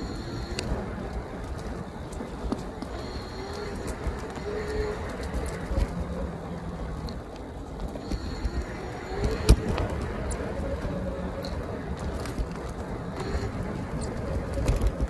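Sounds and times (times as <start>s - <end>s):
bike rattles and knocks: 0.0s - 15.0s
tyres rumbling on rough ground: 0.0s - 15.0s.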